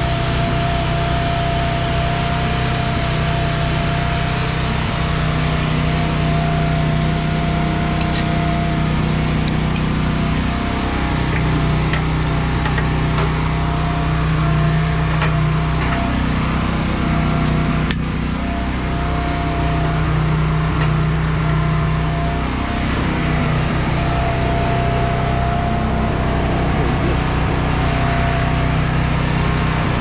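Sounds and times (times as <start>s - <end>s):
faint whine: 0.0s - 30.0s
truck engine running: 0.0s - 30.0s.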